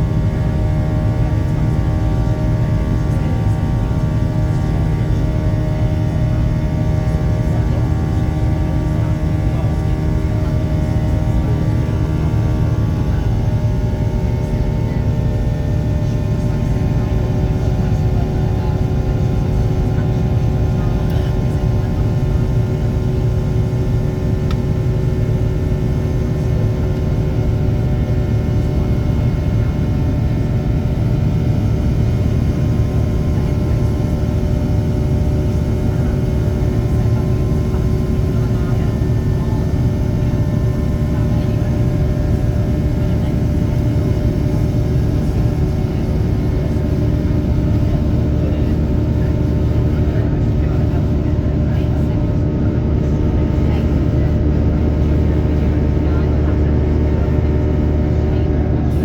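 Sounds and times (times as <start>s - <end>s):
rumble of engines and airflow: 0.0s - 59.0s.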